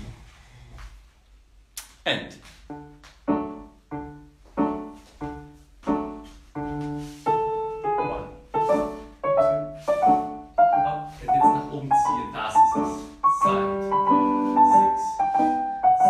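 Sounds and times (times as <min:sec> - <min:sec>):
piano chords and melody: 0:02.7 - 0:16.0.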